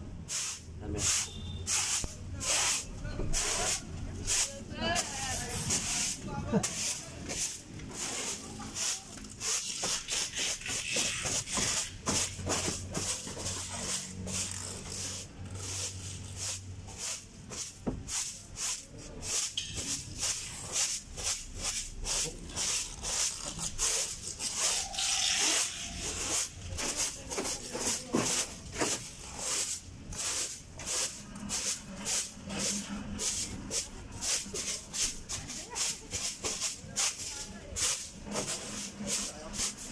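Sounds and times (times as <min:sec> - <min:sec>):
broom sweeping rubber mat: 0:00.3 - 0:39.9.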